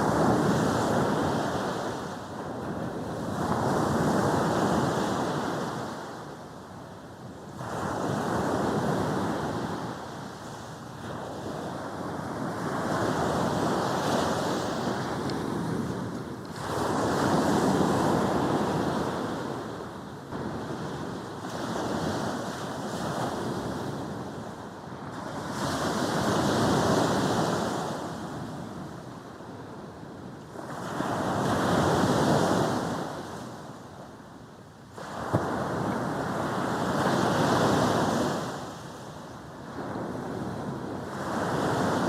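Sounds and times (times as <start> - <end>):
sea waves breaking on beach: 0.0 - 6.4, 7.5 - 29.8, 34.9 - 42.0.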